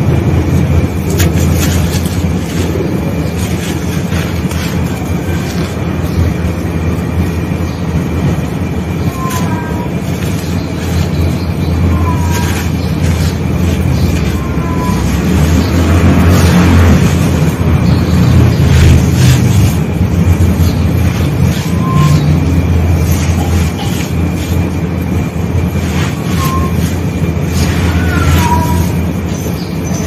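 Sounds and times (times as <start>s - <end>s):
hands crushing gritty sand balls: 0.0s - 7.7s, 8.9s - 30.0s
steady low rumble: 0.0s - 30.0s.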